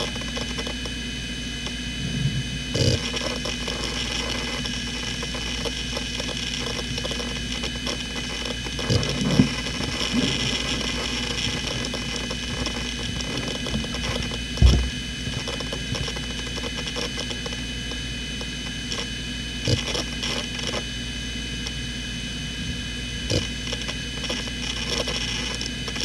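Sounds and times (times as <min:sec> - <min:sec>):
hard drive seek ticking and rattling: 0:00.0 - 0:26.0
hard drive spinning whine: 0:00.0 - 0:26.0.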